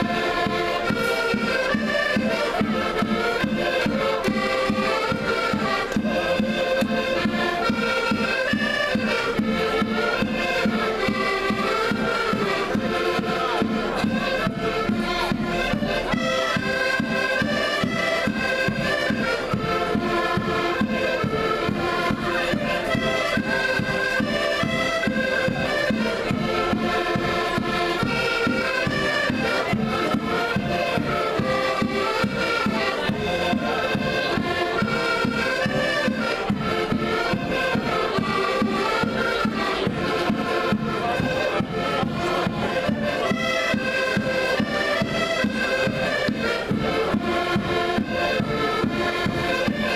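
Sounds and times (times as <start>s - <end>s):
accordions playing folk tune: 0.0s - 49.9s.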